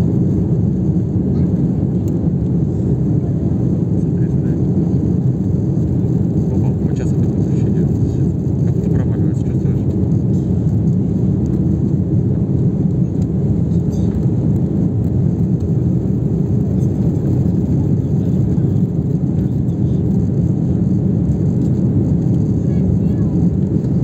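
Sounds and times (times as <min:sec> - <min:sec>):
airplane engines and airflow roar: 0:00.0 - 0:24.0.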